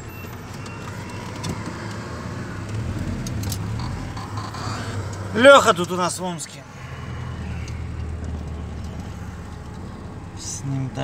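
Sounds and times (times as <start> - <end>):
road noise: 0.0 - 11.0
truck engine running: 0.0 - 11.0.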